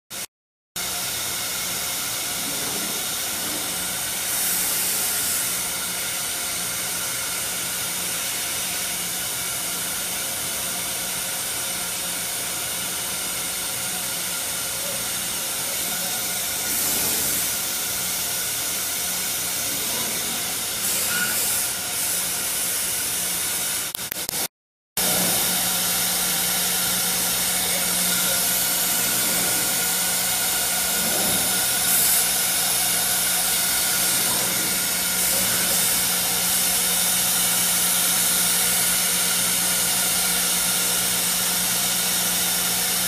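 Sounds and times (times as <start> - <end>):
cnc router running: 0.8 - 23.9, 25.0 - 43.0.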